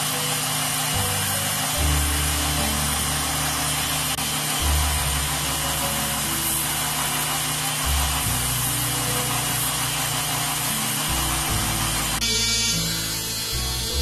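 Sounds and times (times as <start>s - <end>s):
belt grinder grinding steel: 0.0s - 14.0s.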